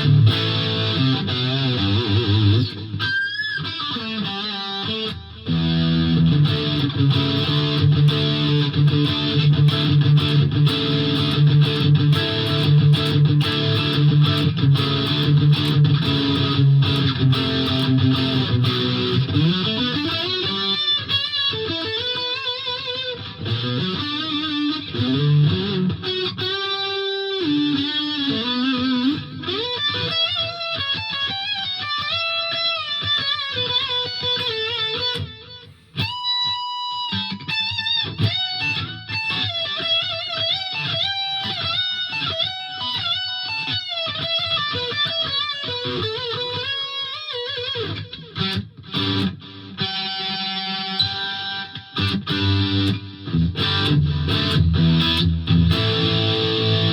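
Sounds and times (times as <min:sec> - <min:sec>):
electric guitar chords: 0:00.0 - 0:56.9
electric guitar lead lines: 0:00.0 - 0:56.9.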